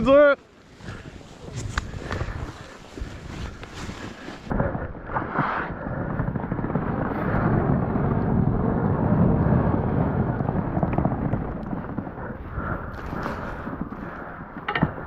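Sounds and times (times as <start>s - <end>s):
snowbike track churning snow: 0.0s - 15.0s.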